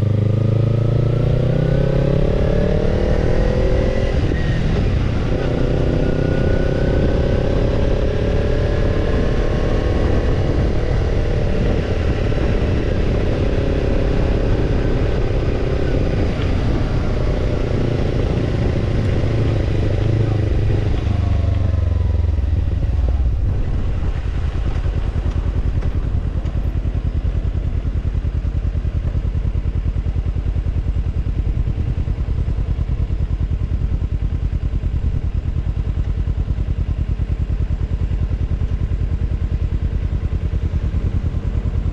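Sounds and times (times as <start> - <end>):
motorcycle engine revving and idling: 0.0 - 41.9.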